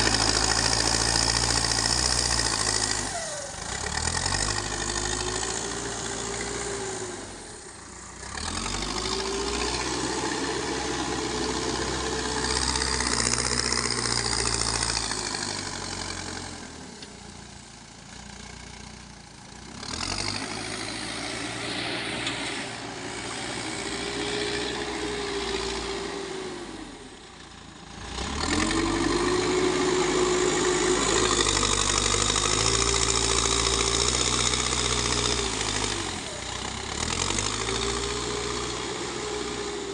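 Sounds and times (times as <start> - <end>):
diesel engine revving: 0.0 - 18.9, 19.5 - 39.9.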